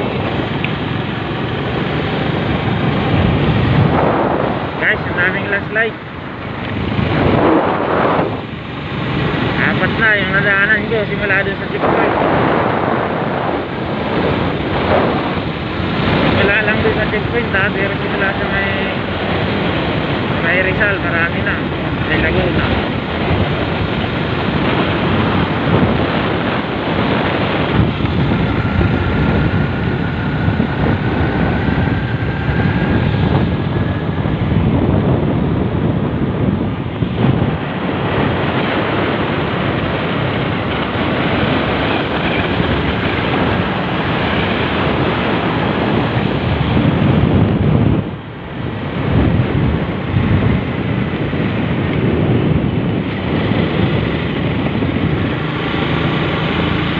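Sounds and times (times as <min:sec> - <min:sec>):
scooter engine hum: 0:00.0 - 0:56.9
tyres on asphalt: 0:00.0 - 0:56.9
wind rushing over microphone: 0:00.0 - 0:56.9.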